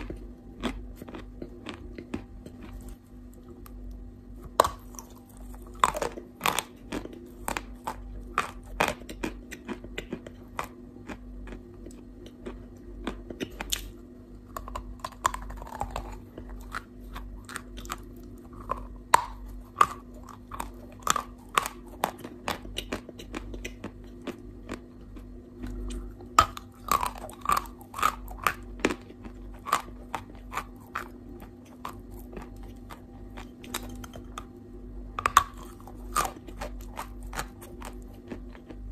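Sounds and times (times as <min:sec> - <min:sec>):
chalk crunching being chewed: 0:00.0 - 0:38.9
faint low hum: 0:00.0 - 0:38.9.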